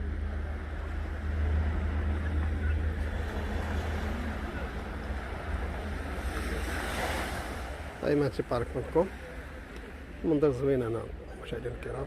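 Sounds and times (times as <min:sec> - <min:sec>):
sea surf washing: 0:00.0 - 0:11.3.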